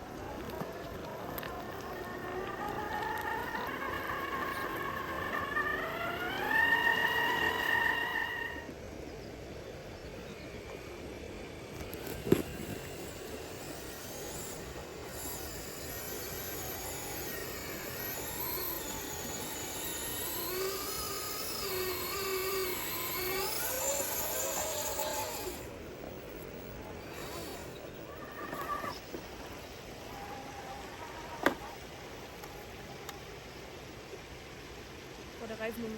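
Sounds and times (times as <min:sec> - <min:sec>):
electric motor whining: 0:00.0 - 0:08.7, 0:11.8 - 0:33.1.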